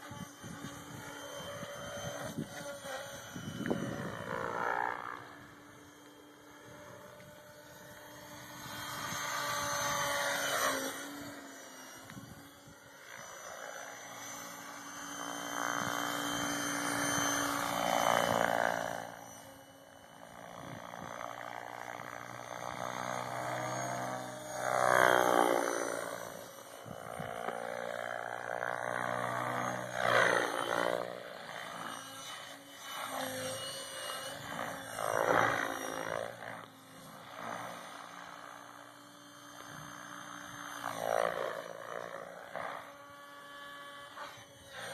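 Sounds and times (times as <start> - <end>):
rc helicopter rotor whirring: 0.0 - 44.9.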